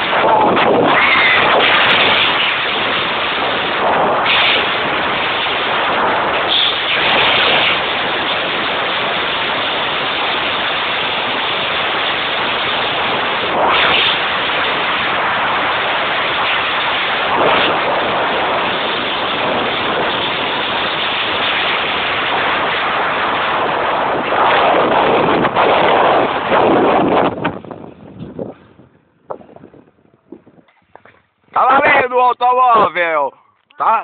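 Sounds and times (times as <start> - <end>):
wind noise on microphone: 0.0 - 33.4.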